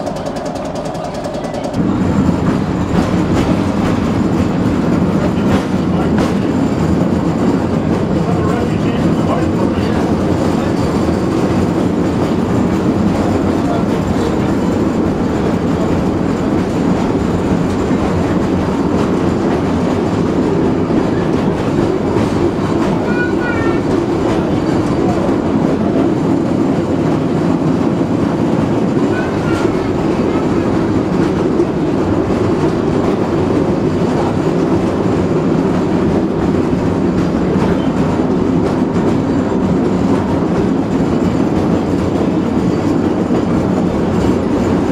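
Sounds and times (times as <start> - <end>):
streetcar wheels rumbling on rail: 0.0 - 44.9.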